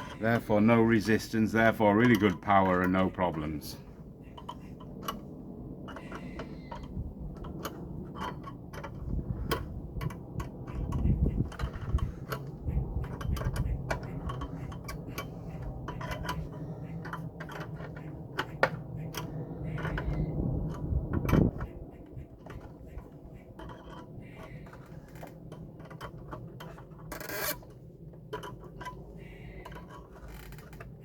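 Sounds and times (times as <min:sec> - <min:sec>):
low steady rumble: 0:00.0 - 0:31.0
tools clicking on metal nuts: 0:00.0 - 0:31.0.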